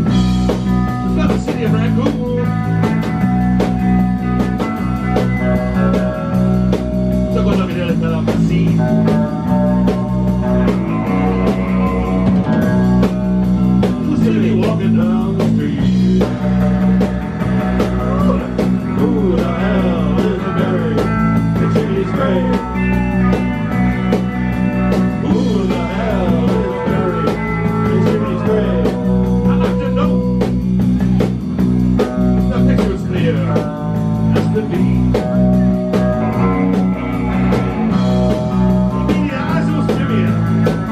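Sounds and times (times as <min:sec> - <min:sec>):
bass guitar: 0:00.0 - 0:40.9
distorted electric guitars: 0:00.0 - 0:40.9
drum kit: 0:00.0 - 0:40.9.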